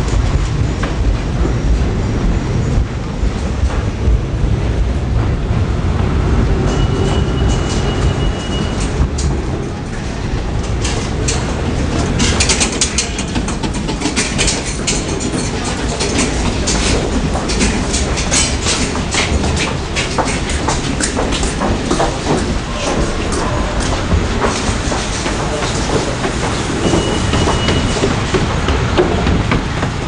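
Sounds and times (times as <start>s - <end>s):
train low rumble: 0.0s - 30.0s
wheels clattering over rail joints: 0.0s - 30.0s.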